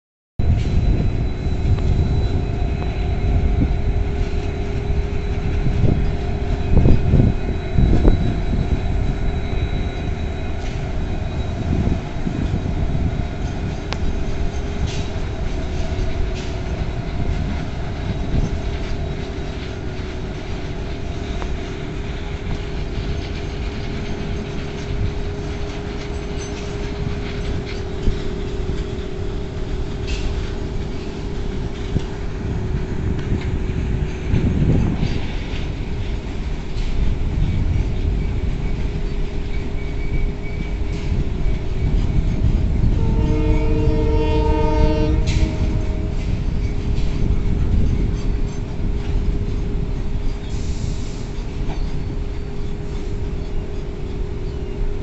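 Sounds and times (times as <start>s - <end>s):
diesel locomotive engine rumble: 0.4s - 55.0s
freight wagons rolling on track: 0.5s - 55.0s.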